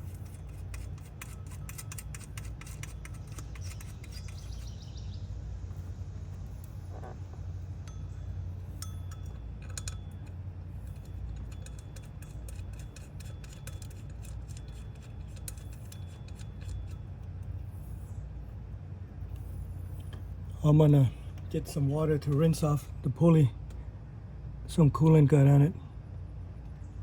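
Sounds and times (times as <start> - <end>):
low hum: 0.0 - 24.9.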